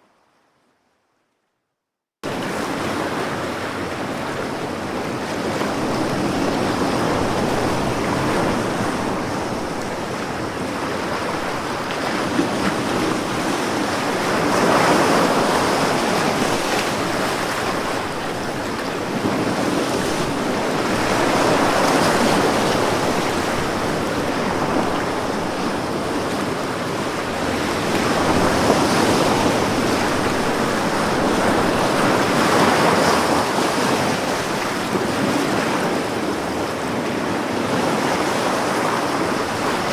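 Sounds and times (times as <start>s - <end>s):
ocean waves breaking: 2.2s - 39.9s.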